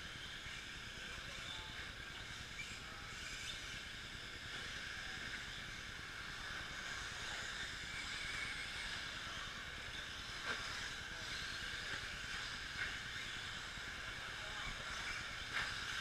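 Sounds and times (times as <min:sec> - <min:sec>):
rc truck motors whining: 0:00.0 - 0:16.0.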